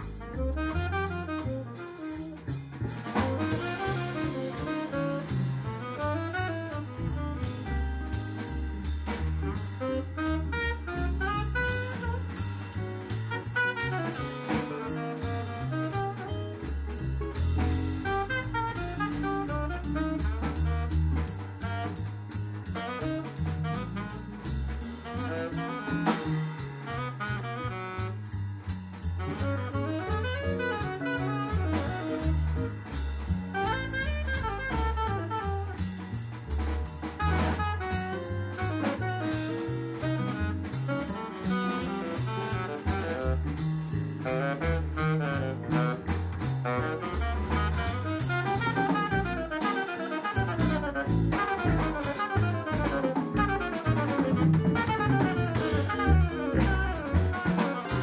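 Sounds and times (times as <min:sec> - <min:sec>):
tenor saxophone melody: 0:00.0 - 0:08.6, 0:09.5 - 0:12.4, 0:13.3 - 0:17.0, 0:17.6 - 0:22.0, 0:22.7 - 0:24.4, 0:25.0 - 0:28.4, 0:29.2 - 0:32.9, 0:33.5 - 0:35.8, 0:37.2 - 0:43.6, 0:44.2 - 0:58.0
drum kit cymbal beat: 0:00.0 - 0:58.0
walking upright bass: 0:00.0 - 0:58.0.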